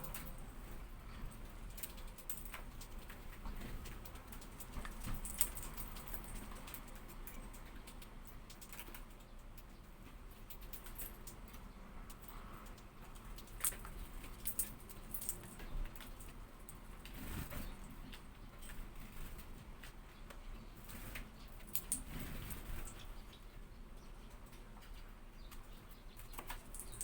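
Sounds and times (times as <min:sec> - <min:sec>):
bird ticking and tapping: 0:00.0 - 0:27.0.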